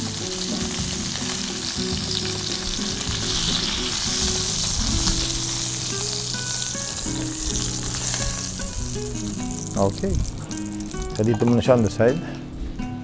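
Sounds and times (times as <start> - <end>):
shrimps sizzling in oil: 0.0 - 11.7
background music: 0.0 - 13.0.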